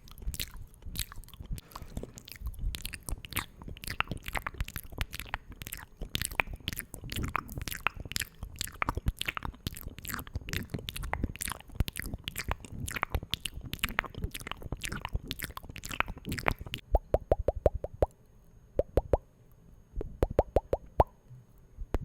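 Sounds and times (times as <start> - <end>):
hollow mouth pops: 0.0 - 18.2, 18.8 - 19.2, 20.0 - 21.2
wet mouth clicks and pops: 0.0 - 18.2, 18.8 - 19.2, 20.0 - 21.1.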